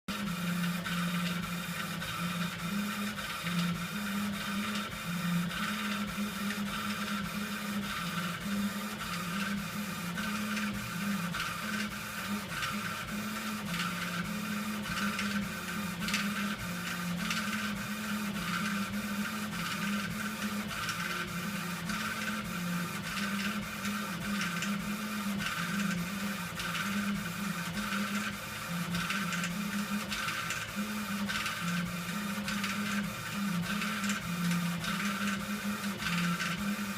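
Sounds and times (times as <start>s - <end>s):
laser engraver motors humming: 0.1s - 36.9s.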